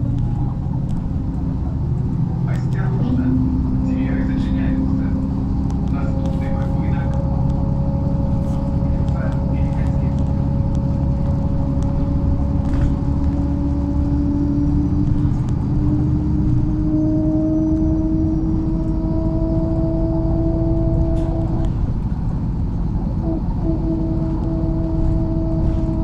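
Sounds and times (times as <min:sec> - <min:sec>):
bus engine rumble: 0:00.0 - 0:26.0
drivetrain whine rising: 0:00.0 - 0:26.0.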